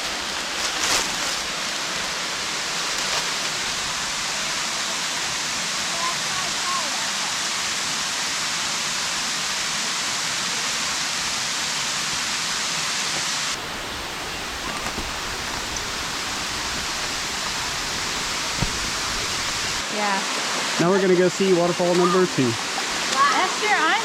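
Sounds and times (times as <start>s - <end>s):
waterfall and creek rushing: 0.0s - 24.0s.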